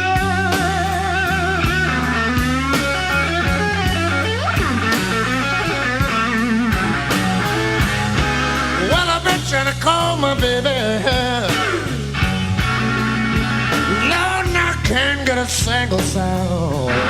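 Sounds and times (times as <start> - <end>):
bass guitar: 0.0 - 17.0
drums: 0.0 - 17.0
electric guitar lead with vibrato: 0.0 - 17.0.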